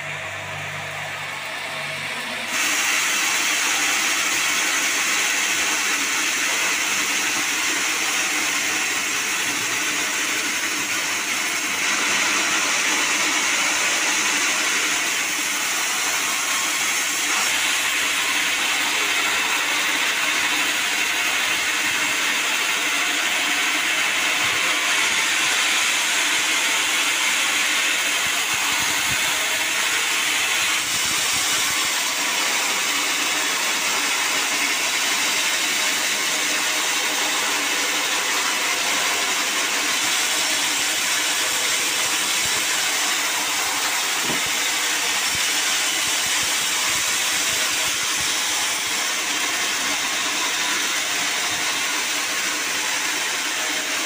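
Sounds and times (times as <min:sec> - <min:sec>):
band saw cutting through log: 0:00.0 - 0:54.0.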